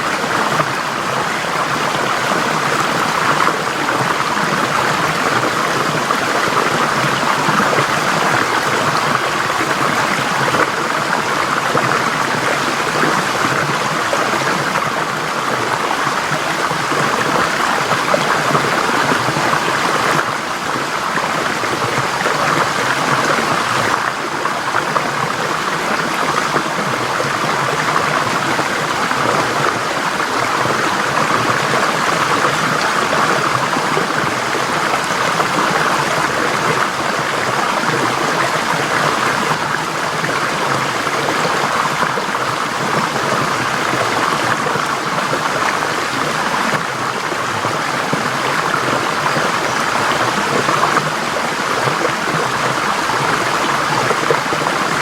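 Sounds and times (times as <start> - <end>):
stream gurgling over rocks: 0.0 - 55.0.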